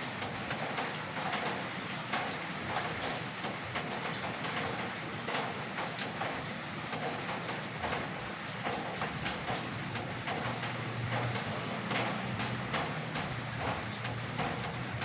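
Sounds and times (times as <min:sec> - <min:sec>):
light rain drops tapping: 0:00.0 - 0:15.0.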